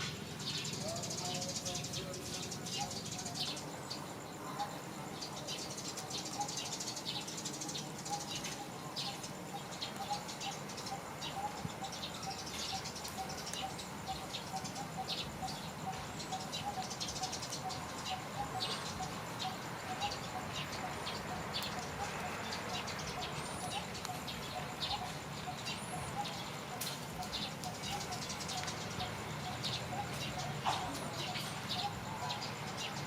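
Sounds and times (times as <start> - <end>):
birds chirping: 0.0 - 33.0
fast pulsing bird call: 4.5 - 33.0.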